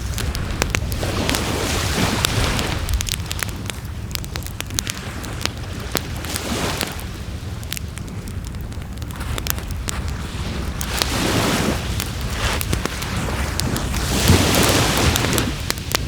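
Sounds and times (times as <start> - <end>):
campfire crackling and popping: 0.0 - 16.0
surf washing on shore: 0.0 - 16.0
wind: 0.0 - 16.0.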